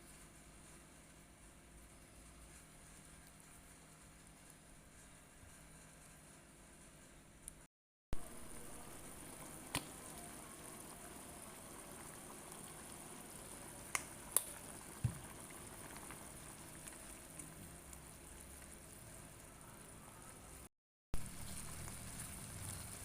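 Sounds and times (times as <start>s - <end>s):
food bubbling on stove: 0.2s - 6.3s, 8.2s - 23.0s.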